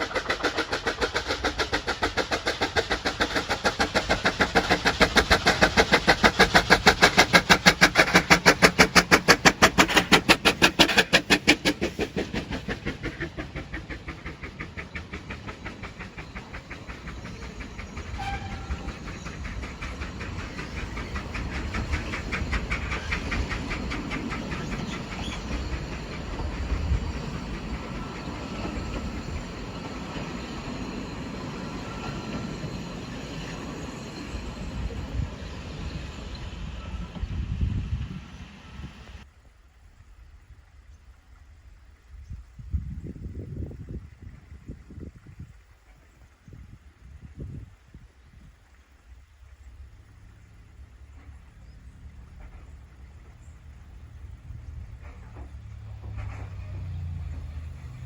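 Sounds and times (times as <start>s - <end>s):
steam locomotive exhaust beats: 0.0s - 39.7s, 41.4s - 58.0s
rumble of train running: 0.0s - 58.0s.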